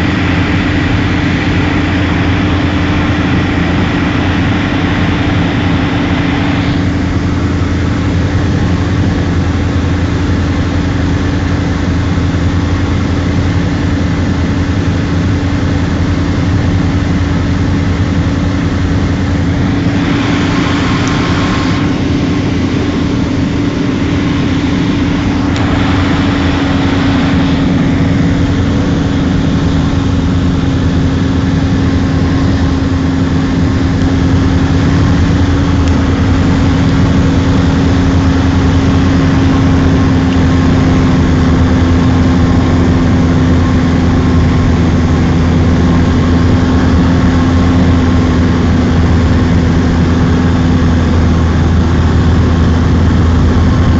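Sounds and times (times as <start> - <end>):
plane engine and propeller droning: 0.0 - 53.9.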